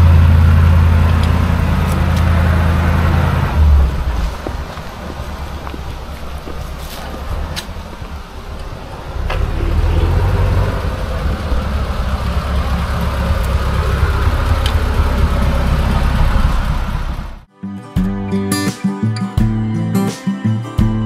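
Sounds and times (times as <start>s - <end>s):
truck engine low rumble: 0.0s - 17.5s.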